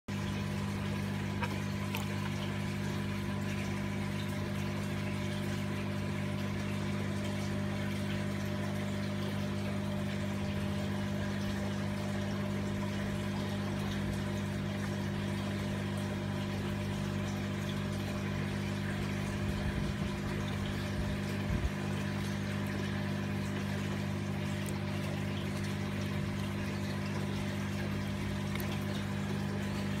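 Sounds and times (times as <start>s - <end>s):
electric motor hum: 0.1s - 30.0s.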